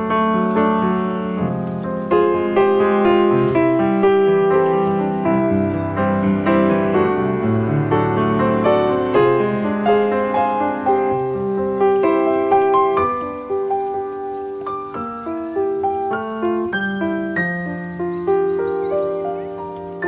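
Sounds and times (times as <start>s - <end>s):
piano piece: 0.0s - 20.0s.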